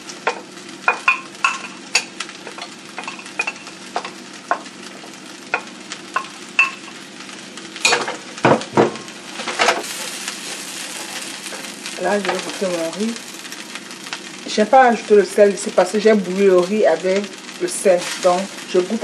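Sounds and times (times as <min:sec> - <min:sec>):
faint sizzle: 0:00.0 - 0:19.0.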